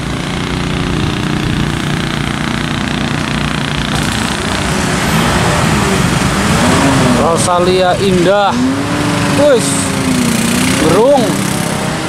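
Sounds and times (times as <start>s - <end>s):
bus diesel engine passing: 0.0s - 12.0s.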